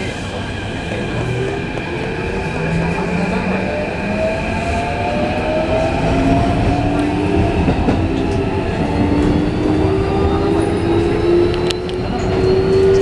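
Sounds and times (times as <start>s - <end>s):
rumble of wheels on rail: 0.0s - 13.0s.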